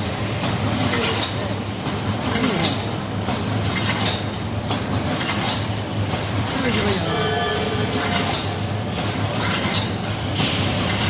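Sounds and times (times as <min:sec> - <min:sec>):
sharp machine clanks: 0:00.0 - 0:11.0
welding machine running: 0:00.0 - 0:11.0.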